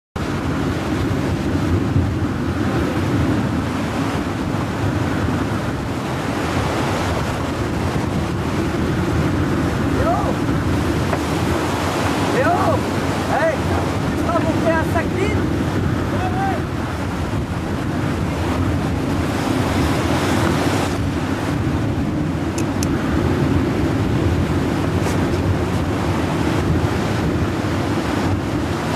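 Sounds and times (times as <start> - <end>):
rough sea waves breaking: 0.2 - 28.9
wind buffeting microphone: 0.2 - 28.9.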